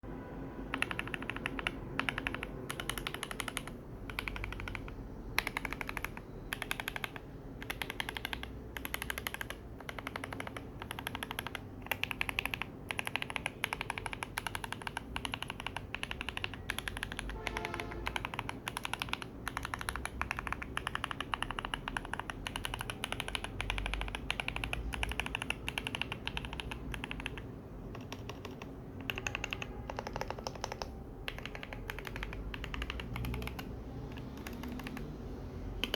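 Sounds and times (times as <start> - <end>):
mechanical keyboard typing: 0.7 - 35.1.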